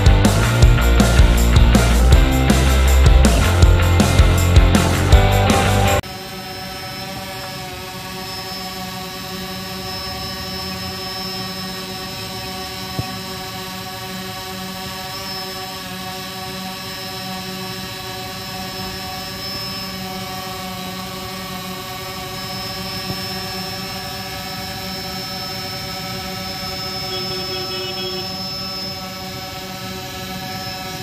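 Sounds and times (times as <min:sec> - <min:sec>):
drone propellers humming: 0:00.0 - 0:31.0.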